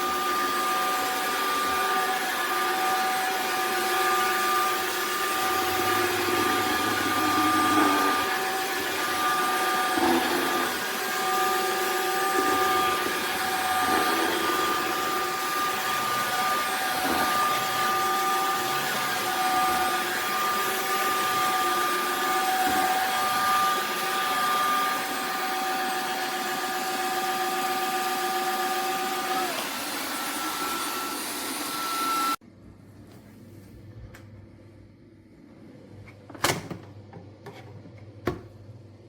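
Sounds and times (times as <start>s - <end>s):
floor vacuum motor whine: 0.0s - 32.4s.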